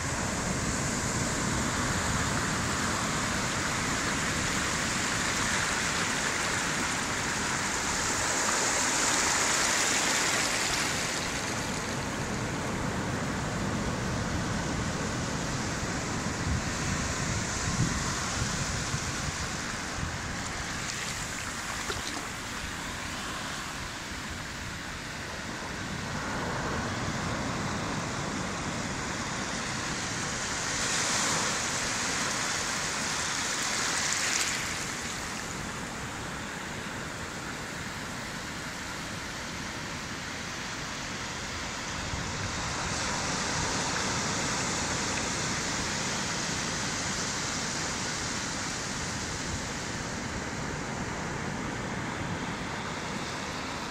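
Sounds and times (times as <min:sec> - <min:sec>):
surf breaking on sand: 0:00.0 - 0:39.8, 0:40.4 - 0:53.9.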